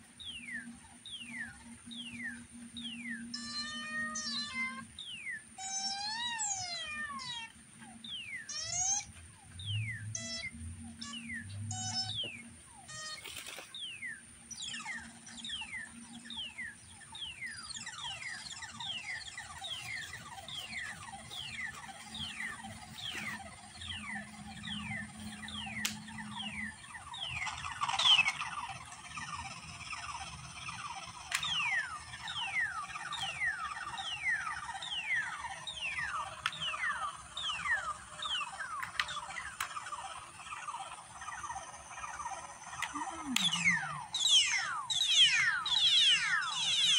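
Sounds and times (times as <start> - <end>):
falling electronic chirps: 0.0 - 46.9
low steady hum: 0.0 - 46.9
steady high whine: 0.0 - 46.9.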